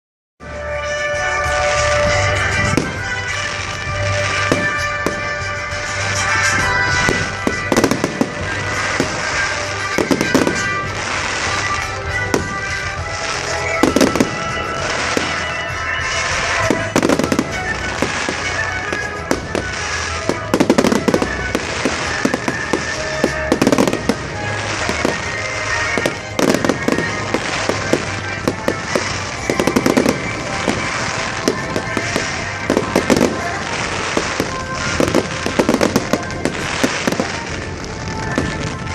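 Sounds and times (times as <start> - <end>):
firework crackling: 0.4 - 38.9
music playing: 0.4 - 38.9.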